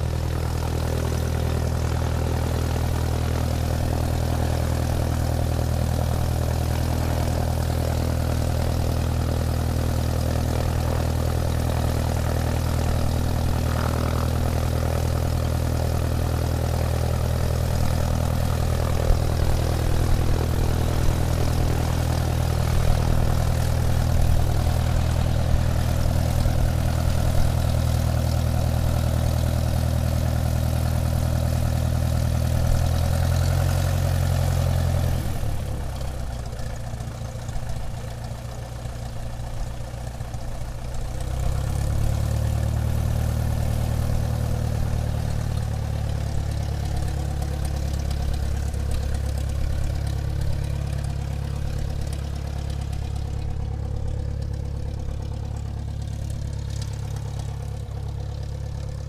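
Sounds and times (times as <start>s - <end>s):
airplane engine drone: 0.0s - 33.7s, 40.2s - 59.0s.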